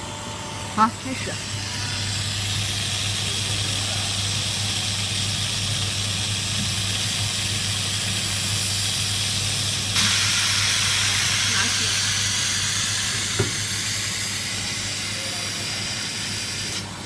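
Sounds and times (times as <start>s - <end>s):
laser cutter humming and hissing: 0.0s - 17.0s.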